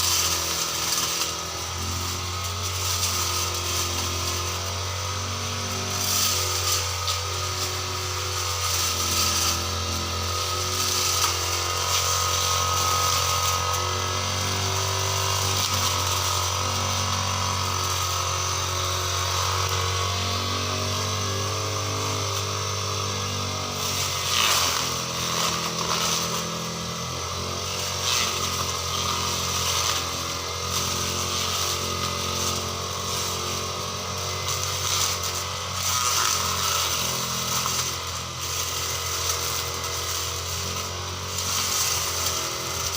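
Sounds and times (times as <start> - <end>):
brush cutter engine running: 0.0 - 42.9.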